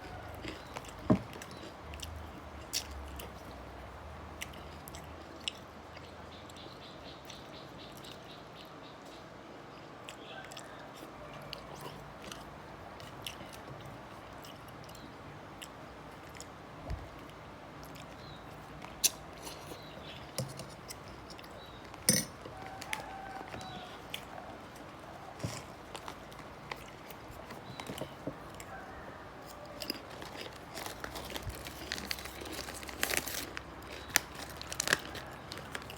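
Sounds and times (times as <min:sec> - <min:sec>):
person chewing crunchy food: 0:00.0 - 0:08.7, 0:10.0 - 0:35.9.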